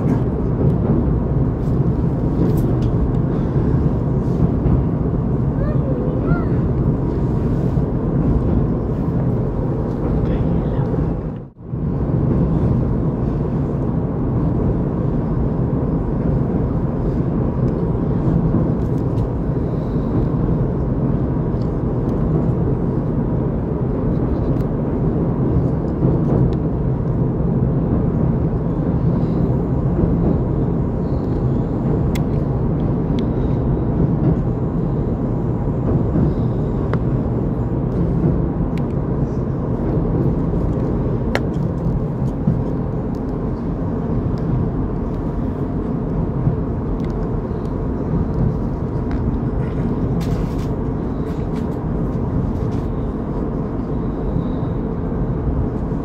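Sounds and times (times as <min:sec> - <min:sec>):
train carriage running on rails: 0:00.0 - 0:56.0.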